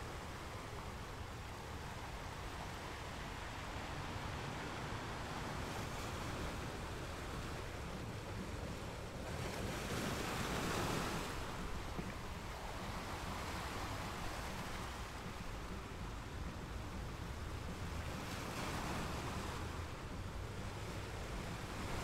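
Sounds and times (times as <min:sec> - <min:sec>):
ocean surf: 0:00.0 - 0:22.0
wind: 0:00.0 - 0:22.0.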